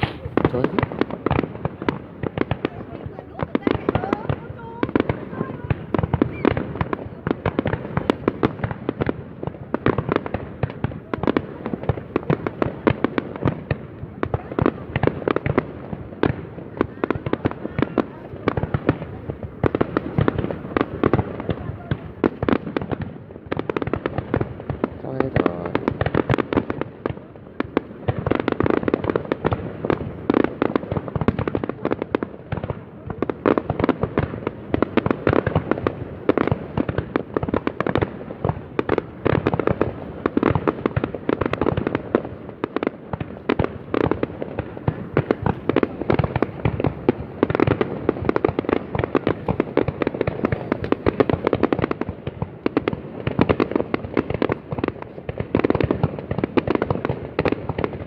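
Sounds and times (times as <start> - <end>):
fireworks barrage: 0.0 - 58.0.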